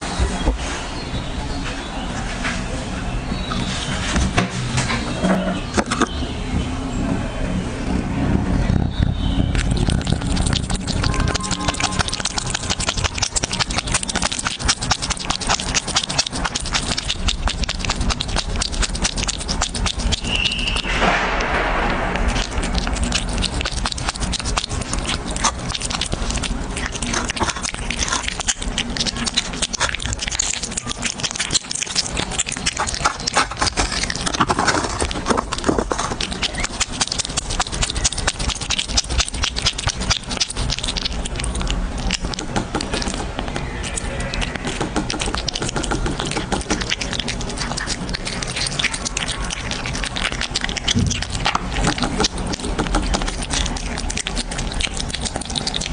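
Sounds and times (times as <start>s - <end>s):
cat crackling and scraping: 7.8s - 55.9s.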